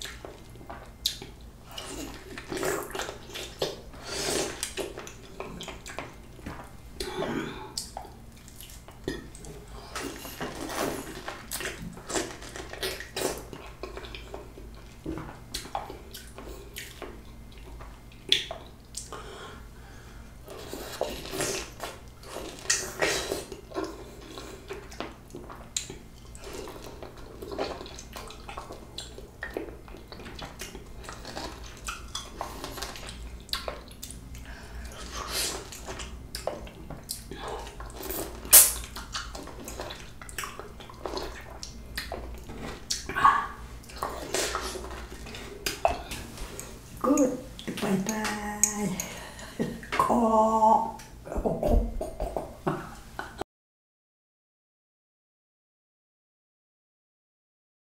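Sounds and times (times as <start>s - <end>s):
wet chewing and slurping: 0.0s - 19.2s, 20.4s - 49.2s.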